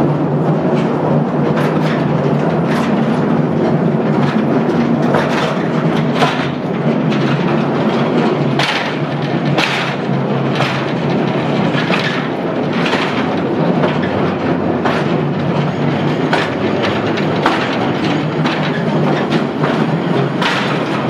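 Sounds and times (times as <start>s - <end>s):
train rumbling in tunnel: 0.0s - 21.0s
wheels clacking over track: 0.0s - 21.0s.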